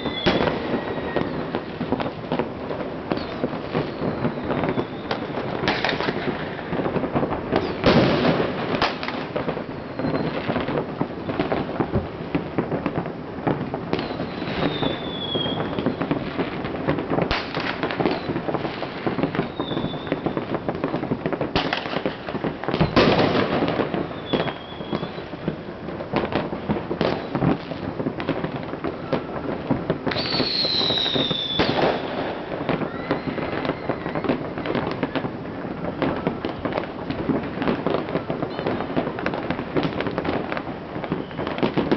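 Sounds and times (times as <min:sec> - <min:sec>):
fireworks bangs and crackle: 0:00.0 - 0:41.9
whistling fireworks falling in pitch: 0:00.0 - 0:41.9.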